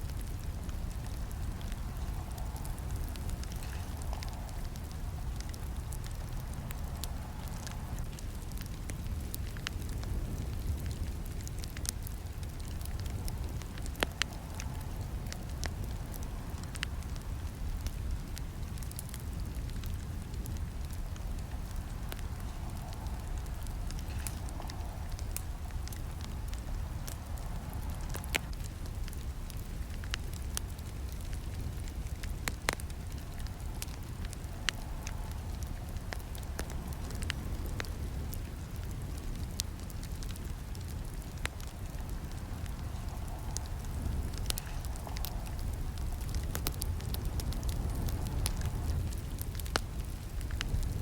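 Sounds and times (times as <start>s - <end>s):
campfire flames rumbling: 0.0s - 51.0s
wood crackling and popping: 0.0s - 51.0s.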